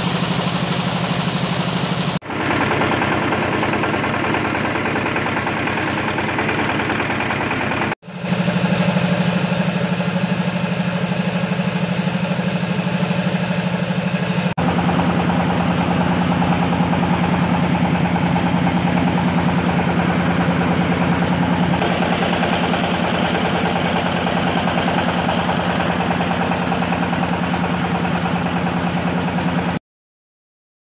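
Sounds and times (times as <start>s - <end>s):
coffee huller machine drone: 0.0s - 29.8s.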